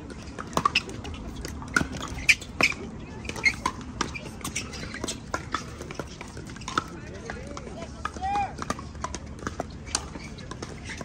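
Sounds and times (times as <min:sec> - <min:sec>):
sneakers squeaking on court: 0:00.0 - 0:07.4, 0:08.6 - 0:11.0.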